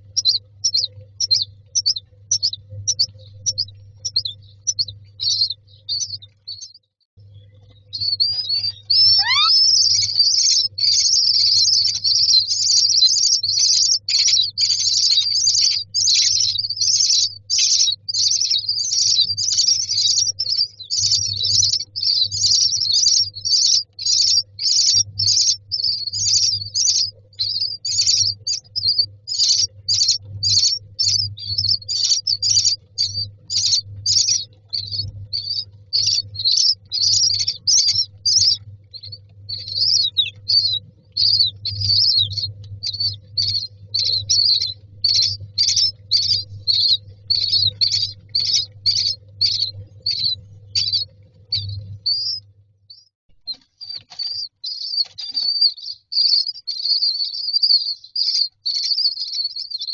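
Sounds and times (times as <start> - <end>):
nestlings begging calls: 0.0 - 6.8, 7.8 - 59.9
faint low hum: 0.0 - 58.3.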